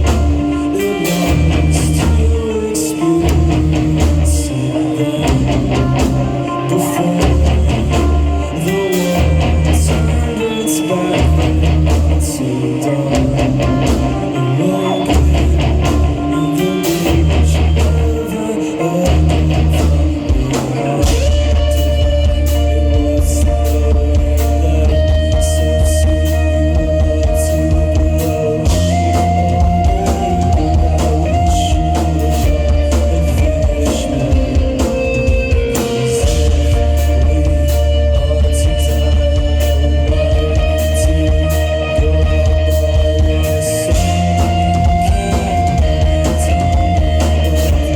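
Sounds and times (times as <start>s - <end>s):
bass guitar: 0.0s - 47.9s
drum kit: 0.0s - 47.9s
electric guitars: 0.0s - 47.9s
person singing: 0.0s - 47.9s
rock band playing live: 0.0s - 47.9s.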